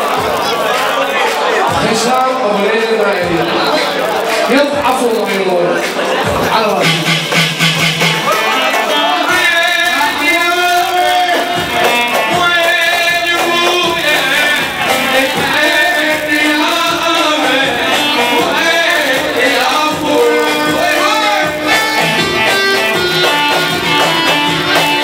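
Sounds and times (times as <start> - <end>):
live band music: 0.0 - 25.0.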